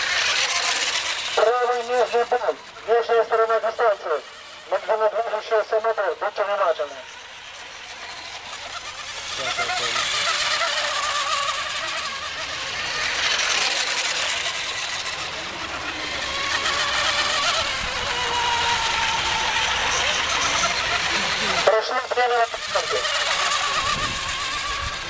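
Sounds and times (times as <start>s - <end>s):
racing boats high-pitched whine: 0.0s - 25.0s.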